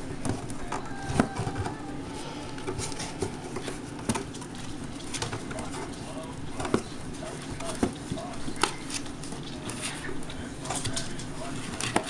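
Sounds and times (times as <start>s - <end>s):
claws pattering on vinyl floor: 0.1s - 12.0s.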